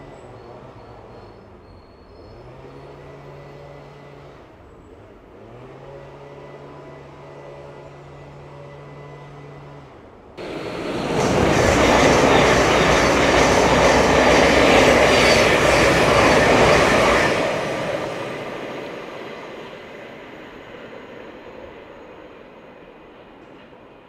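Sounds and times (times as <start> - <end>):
train passing at speed: 0.0 - 4.7, 5.4 - 24.0.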